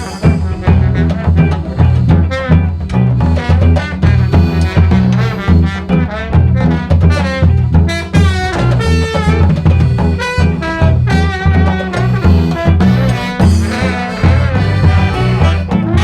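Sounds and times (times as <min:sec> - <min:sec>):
drum kit: 0:00.0 - 0:16.0
low bass line: 0:00.0 - 0:16.0
saxophone: 0:00.0 - 0:16.0
street brass band playing: 0:00.0 - 0:16.0.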